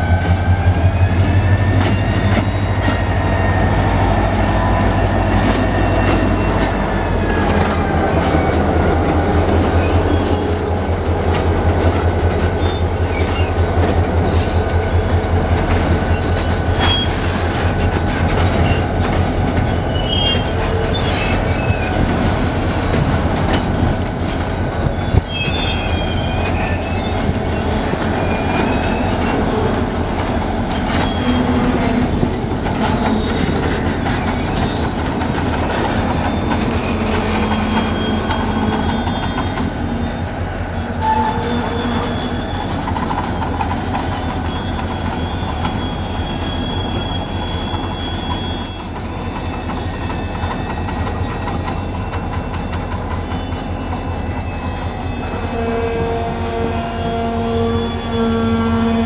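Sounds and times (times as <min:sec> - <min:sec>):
high-pitched wheel and brake squeals: 0:00.0 - 0:59.0
train wagons rumbling: 0:00.0 - 0:59.0.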